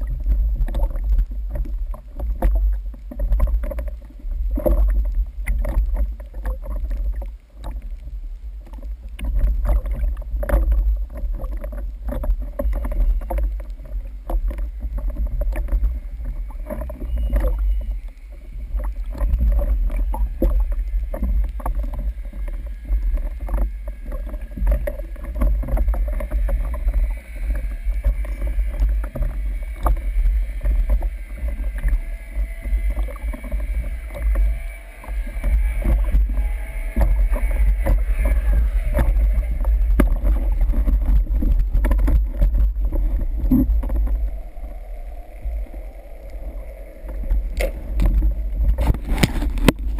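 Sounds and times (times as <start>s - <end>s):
dull low rumble: 0.0s - 49.9s
sea water sloshing and splashing: 0.0s - 49.9s.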